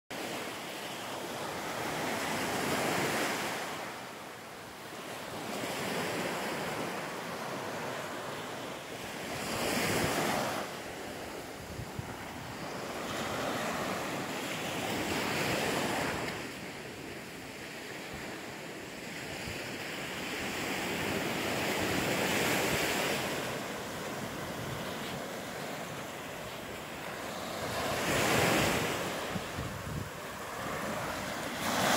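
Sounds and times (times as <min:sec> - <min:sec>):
small waves breaking on beach: 0:00.2 - 0:31.9.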